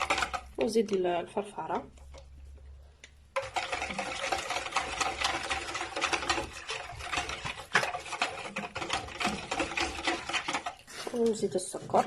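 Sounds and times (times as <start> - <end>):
batter stirred in a bowl: 0.0 - 12.0.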